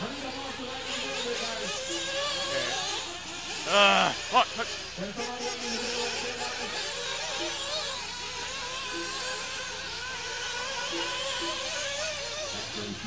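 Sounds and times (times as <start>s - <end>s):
rc car engines buzzing: 0.0s - 13.0s.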